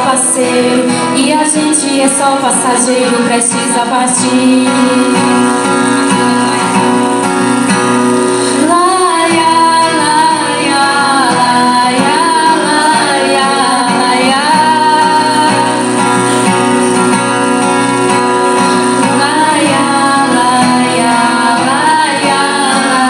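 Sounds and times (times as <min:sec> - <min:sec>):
women singing: 0:00.0 - 0:07.2, 0:08.4 - 0:16.7, 0:18.5 - 0:23.0
instrumental backing music: 0:00.0 - 0:23.0.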